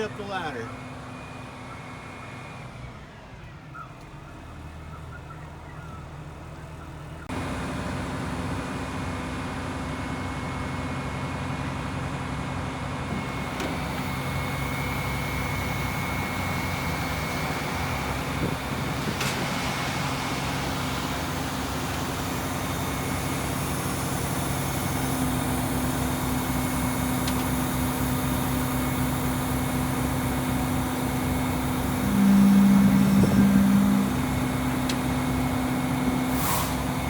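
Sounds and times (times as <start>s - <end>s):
truck engine humming: 0.0s - 2.0s, 3.8s - 37.0s.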